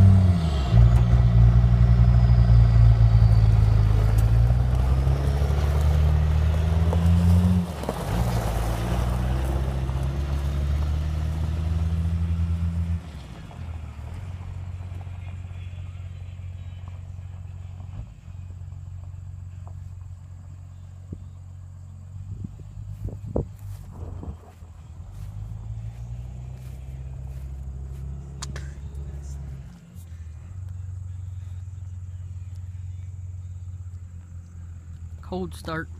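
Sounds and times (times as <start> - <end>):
diesel pickup engine running: 0.0 - 35.9.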